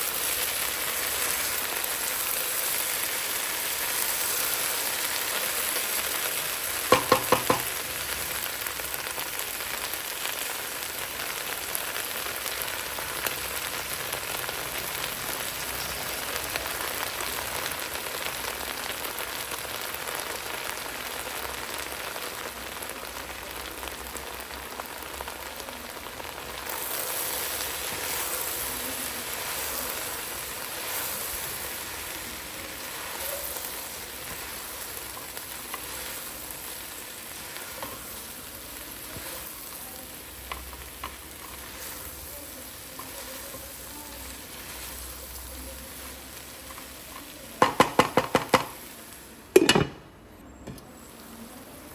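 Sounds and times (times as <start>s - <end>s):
okra sizzling in oil: 0.0s - 51.9s.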